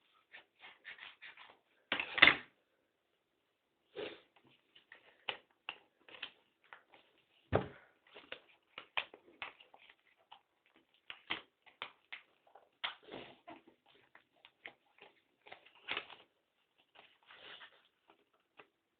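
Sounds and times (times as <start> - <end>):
paper being handled and folded: 0.0 - 2.2, 4.4 - 18.9.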